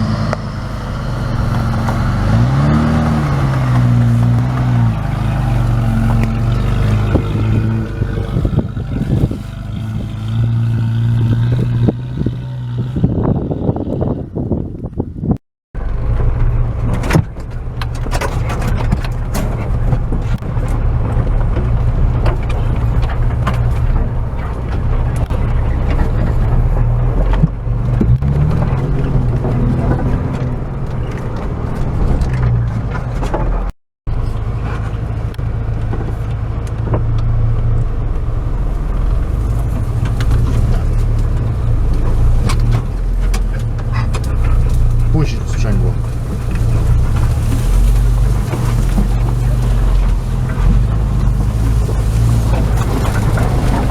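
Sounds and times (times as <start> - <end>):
car engine running at low revs: 0.0 - 53.9
knocks and rattles over rough ground: 0.0 - 53.9.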